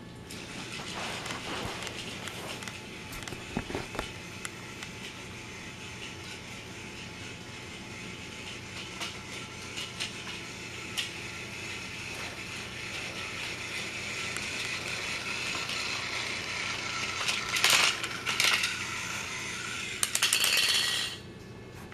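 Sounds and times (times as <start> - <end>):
toy train motor whirring: 0.3 - 21.2.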